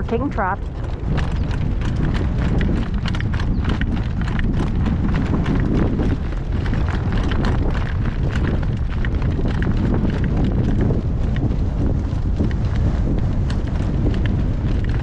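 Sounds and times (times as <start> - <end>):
horse hooves clip-clopping: 0.0 - 15.0
wind buffeting microphone: 0.0 - 15.0.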